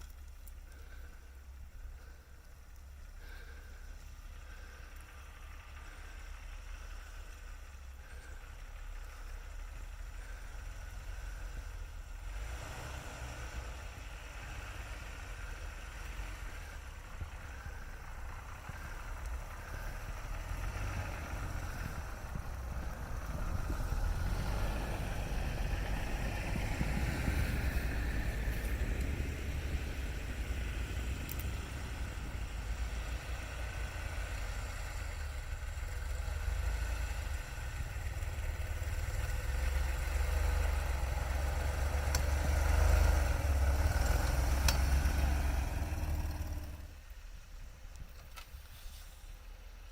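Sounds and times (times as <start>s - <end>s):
car engine rumbling at low revs: 0.0s - 49.9s.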